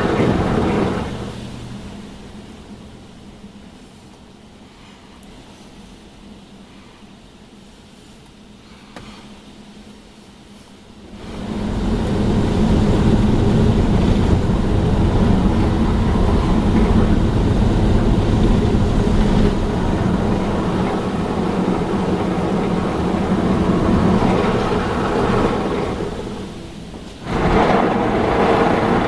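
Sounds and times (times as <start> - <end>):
car wash brushes and water rumbling: 0.0 - 29.0.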